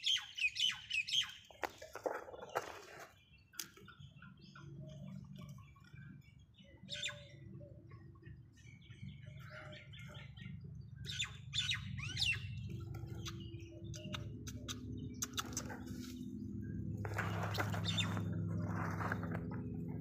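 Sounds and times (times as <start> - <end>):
small birds chirping: 0.0 - 20.0
low steady hum: 3.1 - 20.0.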